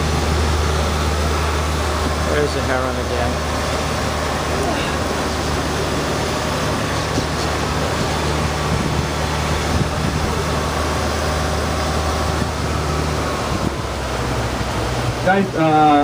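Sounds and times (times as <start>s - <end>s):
outboard motor humming: 0.0s - 16.0s
rush of water noise: 0.0s - 16.0s.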